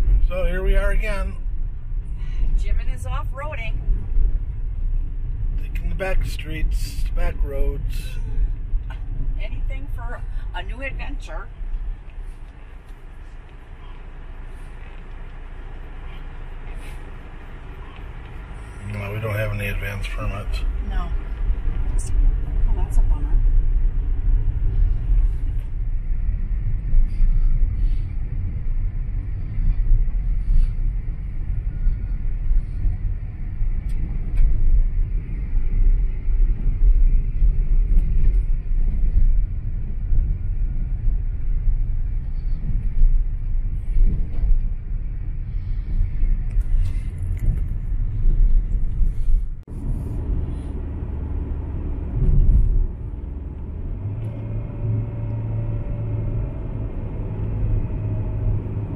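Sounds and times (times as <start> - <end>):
tyres humming on paved road: 0.0 - 58.9.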